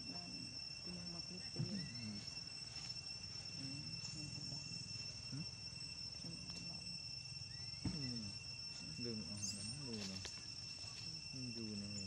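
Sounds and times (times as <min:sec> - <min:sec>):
distant voices: 0:00.0 - 0:12.0
insects droning: 0:00.0 - 0:12.0.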